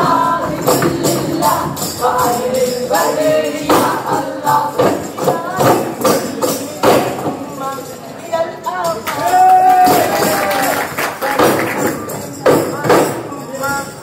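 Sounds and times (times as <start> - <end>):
frame drums beating: 0.0 - 7.6, 9.1 - 14.0
group singing in unison: 0.0 - 14.0.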